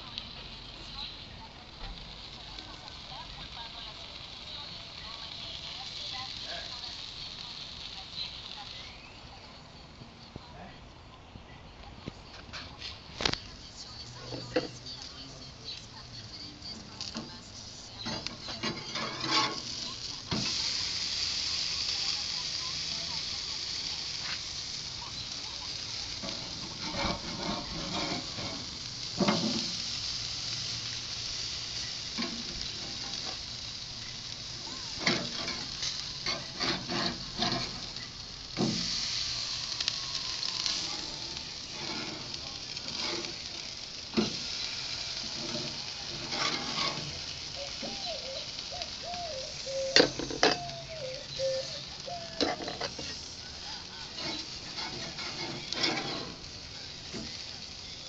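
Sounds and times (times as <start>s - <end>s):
burgers sizzling on grill: 0.0s - 58.0s
metal spatula scraping grill: 2.0s - 8.8s, 12.3s - 15.2s, 15.9s - 58.0s.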